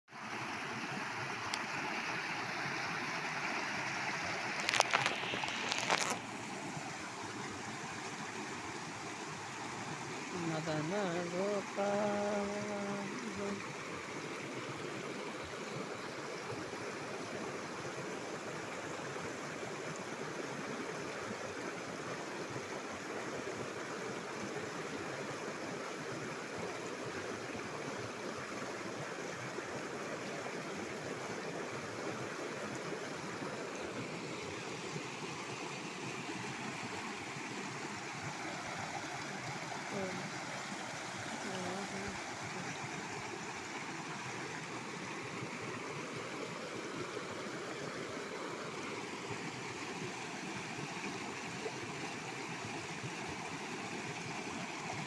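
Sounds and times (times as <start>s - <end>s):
water flowing: 0.1s - 55.0s.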